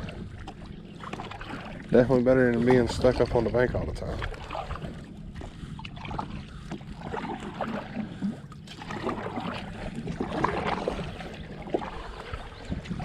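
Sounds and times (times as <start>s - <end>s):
kayak paddle splashing: 0.0s - 13.0s
low steady rumble: 0.0s - 13.0s.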